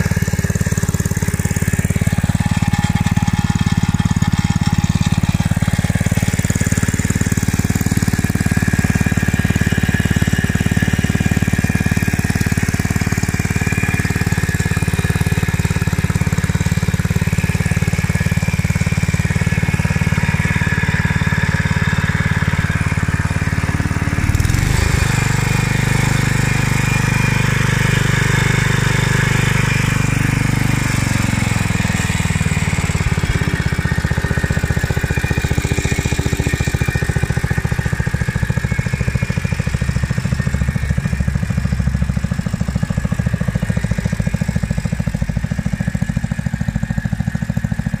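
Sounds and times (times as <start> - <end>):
small petrol engine running: 0.0 - 48.0.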